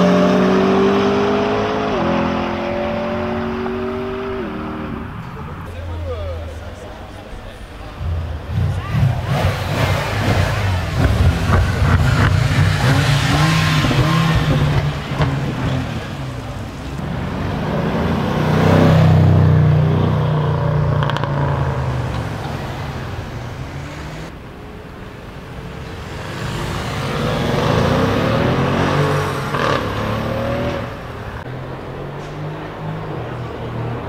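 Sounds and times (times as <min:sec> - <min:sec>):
car engine and exhaust passing: 0:00.0 - 0:34.0.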